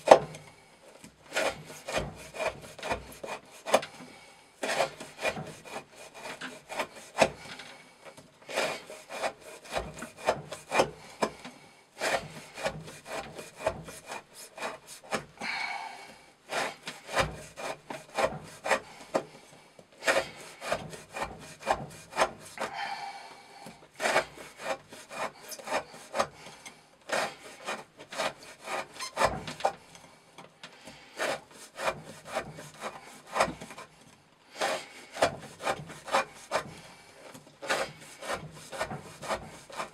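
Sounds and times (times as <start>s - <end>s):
knife cutting rope: 0.0s - 7.8s, 8.4s - 15.6s, 16.5s - 19.4s, 20.0s - 23.1s, 24.0s - 30.1s, 30.8s - 39.9s
knife sawing stroke: 0.0s - 30.2s, 30.8s - 39.9s.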